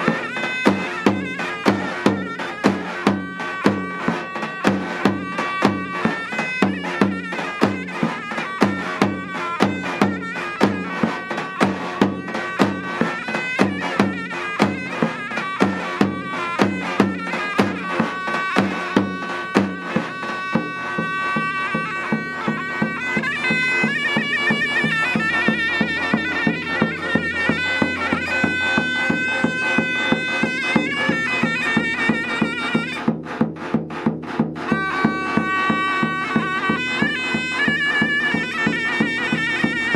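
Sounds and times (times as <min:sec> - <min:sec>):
drum beating: 0:00.0 - 0:39.9
shrill reedy pipe melody: 0:00.0 - 0:39.9.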